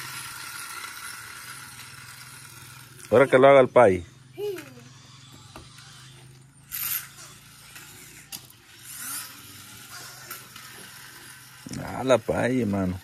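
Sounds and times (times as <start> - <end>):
low mechanical whir with clicking: 0.0 - 13.0.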